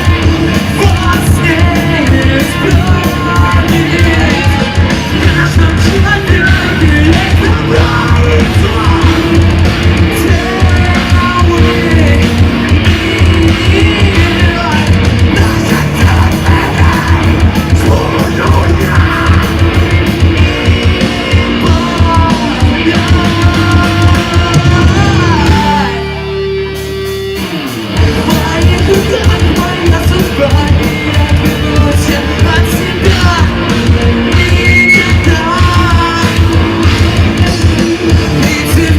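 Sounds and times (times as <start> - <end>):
sung and yelled vocals: 0.0 - 26.4, 28.0 - 38.9
distorted guitars: 0.0 - 38.9
heavy drums: 0.0 - 38.9.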